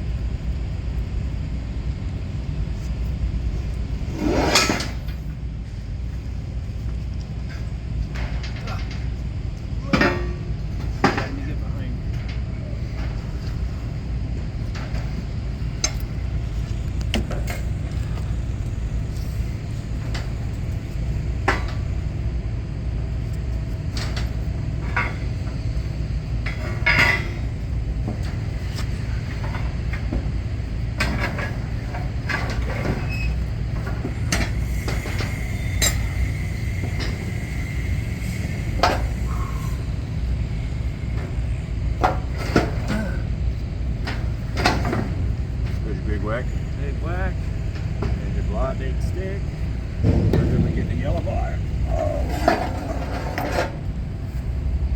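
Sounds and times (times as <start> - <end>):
low mechanical rumble: 0.0 - 54.9.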